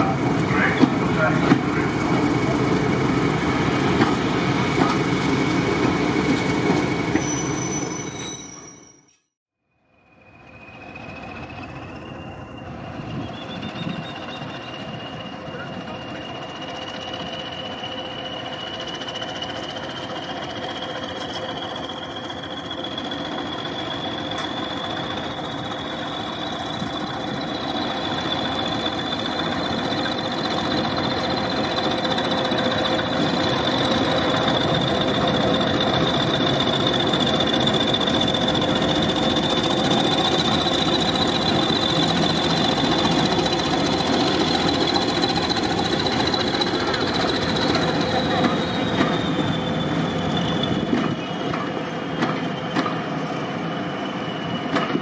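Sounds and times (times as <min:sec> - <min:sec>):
diesel locomotive engine running: 0:00.0 - 0:07.4, 0:10.0 - 0:55.0.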